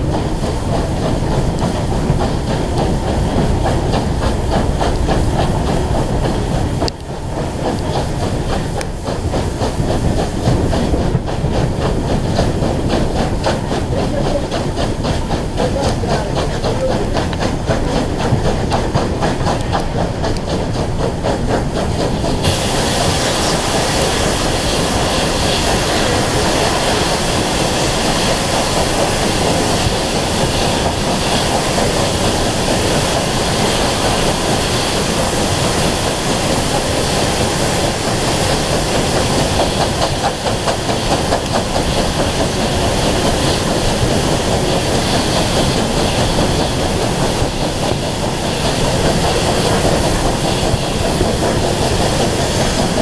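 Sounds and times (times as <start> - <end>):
steam train running: 0.0 - 53.0.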